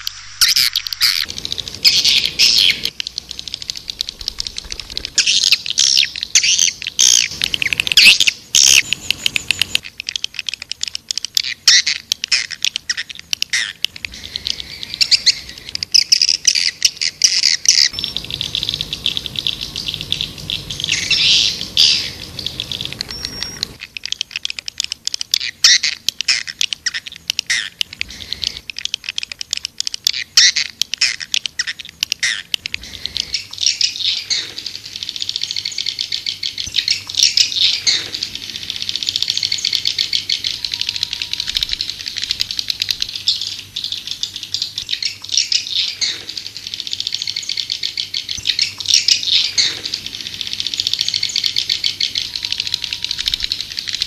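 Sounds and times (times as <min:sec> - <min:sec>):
swiftlet calls twittering: 0:00.0 - 0:54.0.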